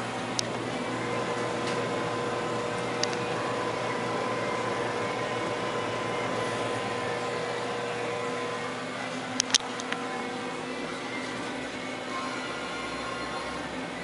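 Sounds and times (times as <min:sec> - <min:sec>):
fan motors whirring: 0:00.0 - 0:14.0.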